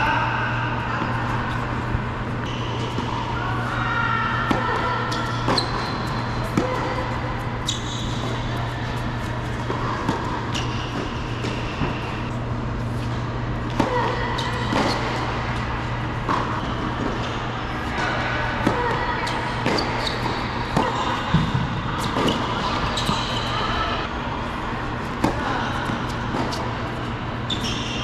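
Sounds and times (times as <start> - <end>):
low hall hum: 0.0 - 28.0
court shoes squeaking: 0.9 - 24.1, 24.8 - 28.0.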